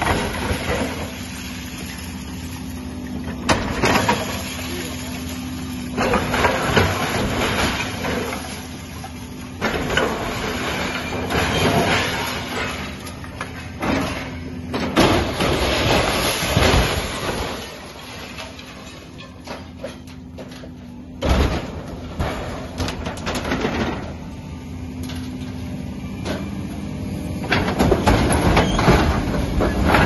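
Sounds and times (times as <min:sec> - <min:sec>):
demolition crashing and grinding: 0:00.0 - 0:25.5, 0:27.4 - 0:30.0
excavator engine hum: 0:00.0 - 0:30.0.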